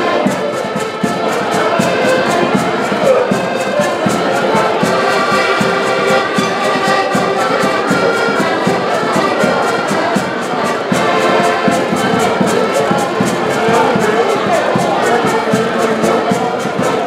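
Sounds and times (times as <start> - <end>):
accordions playing a tune: 0.0 - 17.0.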